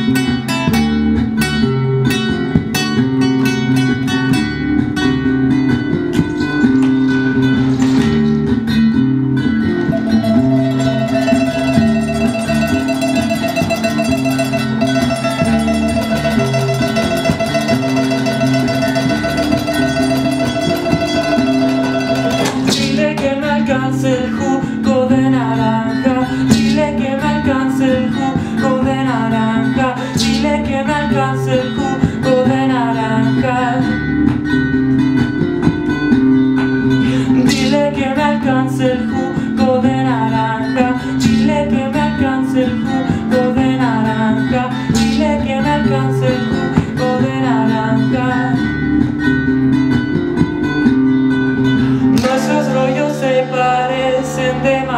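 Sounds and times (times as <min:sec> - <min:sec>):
acoustic guitar strumming: 0:00.0 - 0:54.9
guitar melody line: 0:00.0 - 0:54.9.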